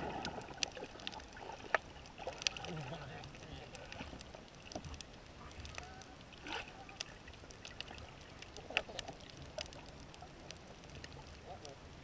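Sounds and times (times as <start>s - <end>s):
low underwater rumble: 0.0s - 12.0s
underwater clicks and crackles: 0.0s - 12.0s.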